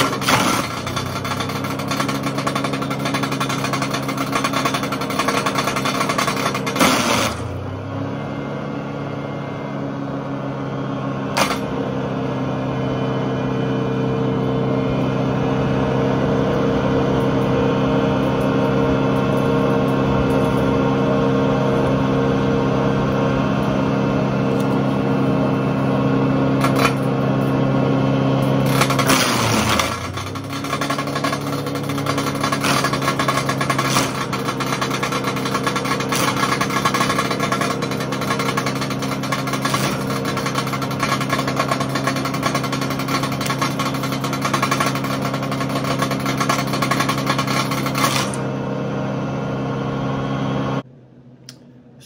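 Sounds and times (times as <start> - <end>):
wood chipper engine running: 0.0 - 52.0.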